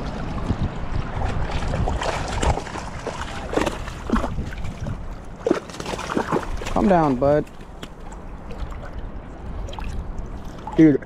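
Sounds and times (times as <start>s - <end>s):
surf water sloshing and splashing: 0.0s - 11.0s
wind rumbling on microphone: 0.0s - 11.0s.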